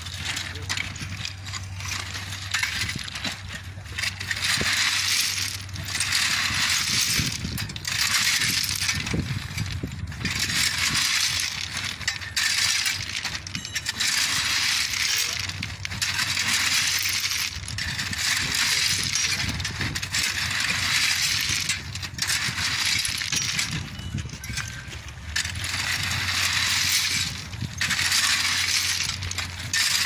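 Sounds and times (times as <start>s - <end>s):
stone ballast clinking and scraping: 0.0s - 30.0s.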